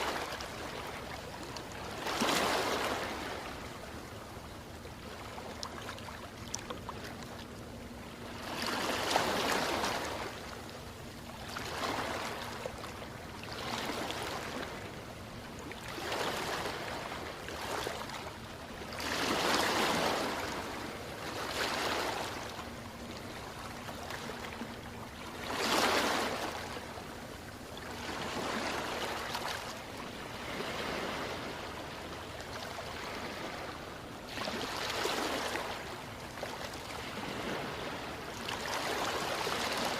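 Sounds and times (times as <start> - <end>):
small ocean waves washing in: 0.0 - 39.9.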